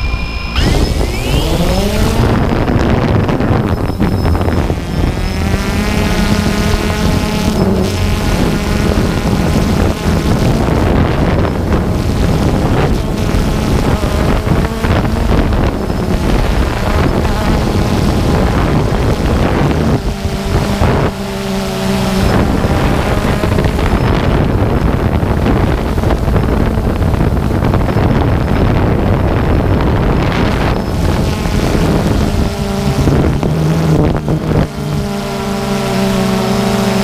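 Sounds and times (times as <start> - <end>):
drone propellers buzzing: 0.0 - 37.0
wind on microphone: 0.0 - 37.0.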